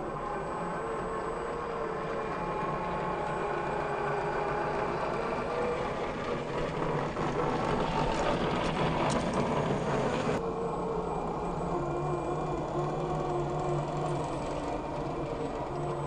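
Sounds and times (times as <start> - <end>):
rc car motor whining: 0.0 - 16.0.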